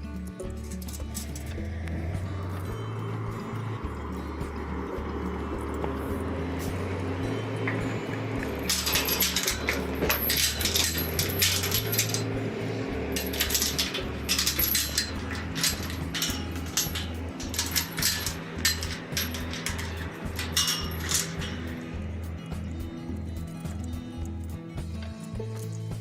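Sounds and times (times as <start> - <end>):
background music with bass line: 0.0 - 26.0
clattering and rattling: 0.0 - 26.0.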